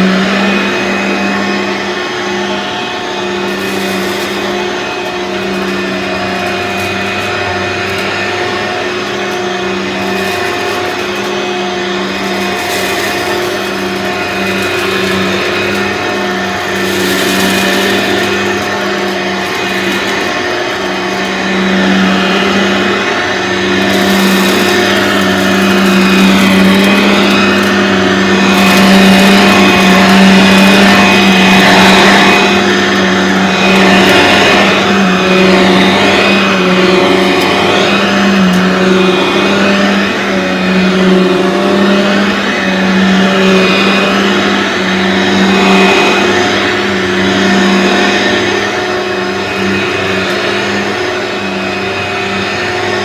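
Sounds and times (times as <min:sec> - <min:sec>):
vacuum cleaner motor humming: 0:00.0 - 0:53.0.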